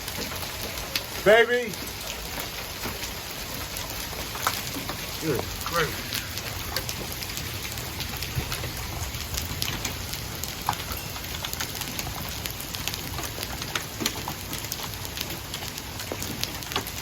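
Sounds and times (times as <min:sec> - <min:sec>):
hailstones striking hard surfaces: 0:00.0 - 0:17.0
heavy rain: 0:00.0 - 0:17.0.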